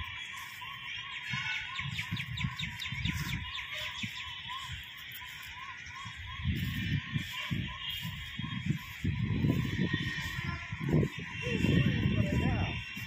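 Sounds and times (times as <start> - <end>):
high falling bird chirps: 0.0 - 13.0.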